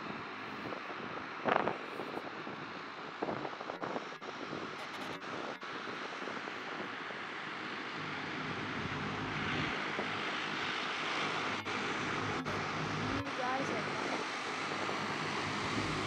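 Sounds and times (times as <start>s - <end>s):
turboprop engines running: 0.0s - 16.0s.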